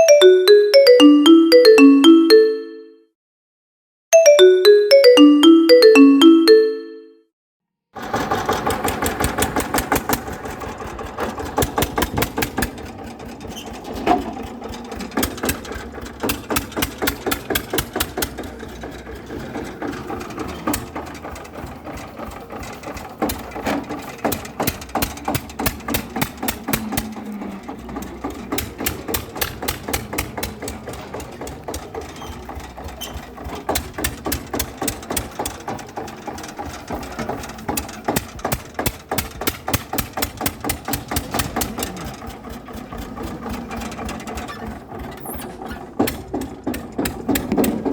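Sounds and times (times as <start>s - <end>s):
rapid mechanical clicking: 8.0s - 47.9s.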